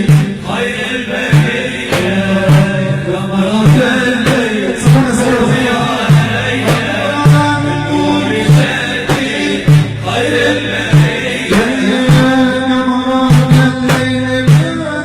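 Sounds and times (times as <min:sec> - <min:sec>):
heavy low drum beat: 0:00.0 - 0:15.0.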